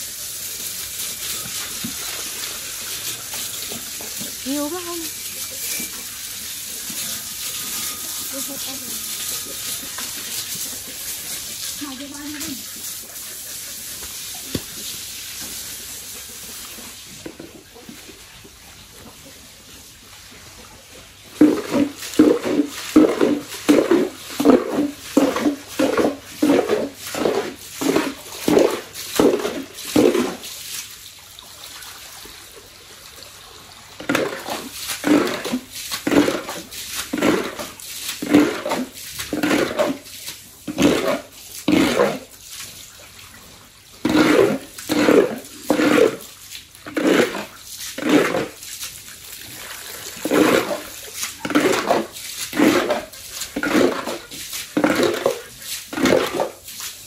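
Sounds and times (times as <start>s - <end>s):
hose water splashing: 0.0s - 57.0s.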